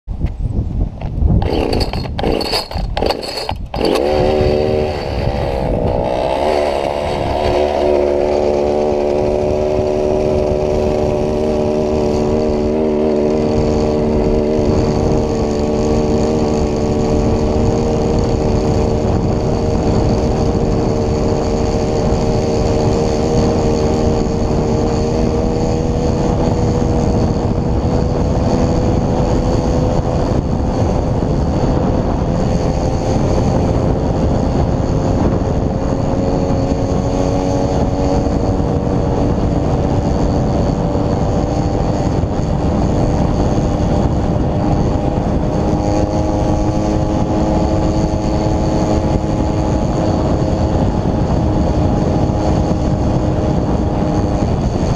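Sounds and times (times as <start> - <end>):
small two-stroke engine revving: 0.9 - 54.9
engine knocks and bursts: 1.0 - 54.9.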